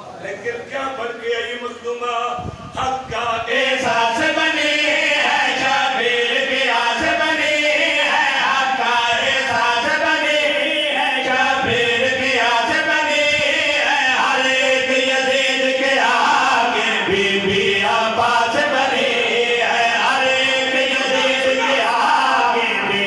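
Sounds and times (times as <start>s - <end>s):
lead reciter chanting: 0.1s - 23.0s
men chanting in chorus: 0.9s - 23.0s.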